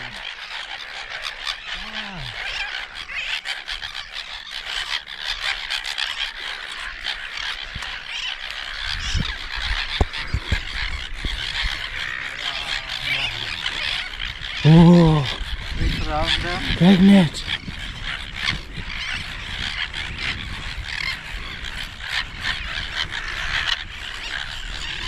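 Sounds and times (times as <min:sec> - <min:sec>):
seabirds calling: 0:00.0 - 0:25.0.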